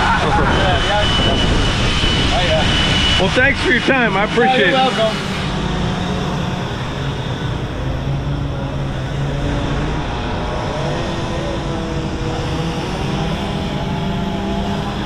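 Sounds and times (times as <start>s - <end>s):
chainsaws running: 1.7s - 15.0s.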